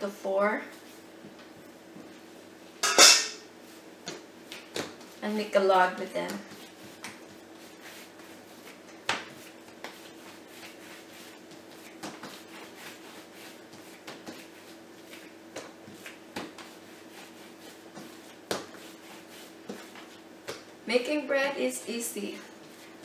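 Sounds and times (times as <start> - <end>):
hands rubbing dough: 0.6 - 2.6, 3.5 - 23.0.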